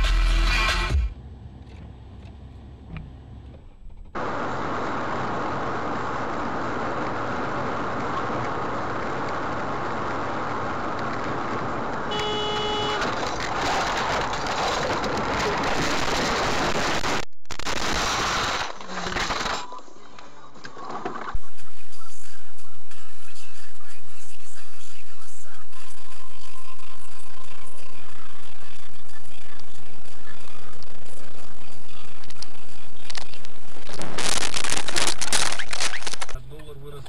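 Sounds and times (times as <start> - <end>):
car road and wind noise: 1.1 - 21.4, 25.9 - 37.0.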